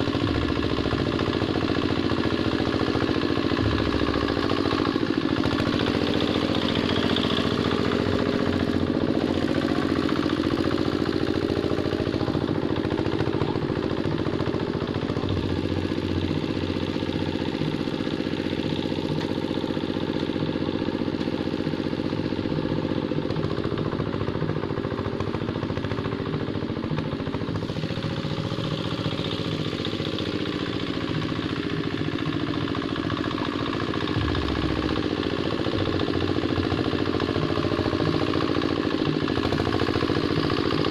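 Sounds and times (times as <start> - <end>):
clatter: 0.0 - 40.9
hand tractor engine running: 0.0 - 40.9.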